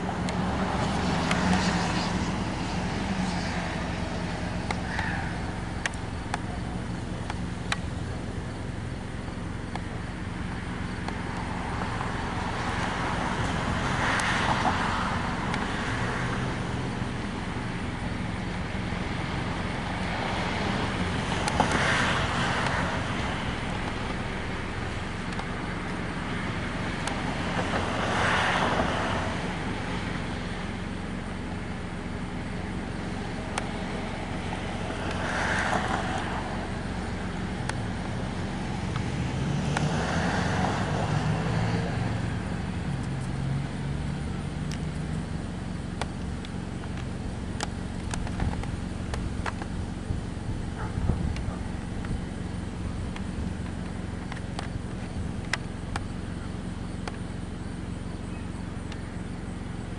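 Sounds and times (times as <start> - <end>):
low engine hum: 0.0 - 59.9
vehicles passing by: 0.0 - 59.9.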